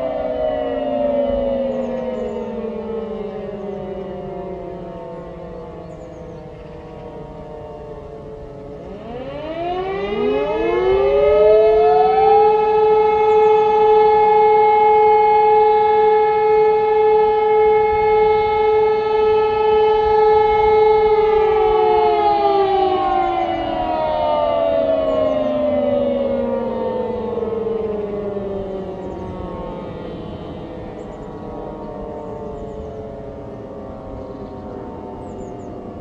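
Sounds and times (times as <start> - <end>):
sirens howling: 0.0 - 36.0.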